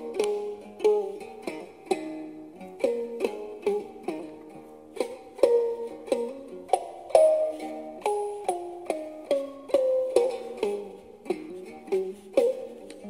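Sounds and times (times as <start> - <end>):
plucked stick zither melody: 0.0 - 13.0.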